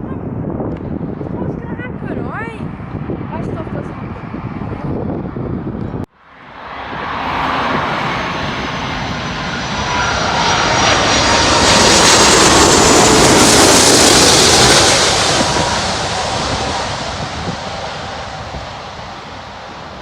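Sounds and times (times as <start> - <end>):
airliner passing overhead: 0.1 - 20.0
high jet engine whine: 0.2 - 20.0.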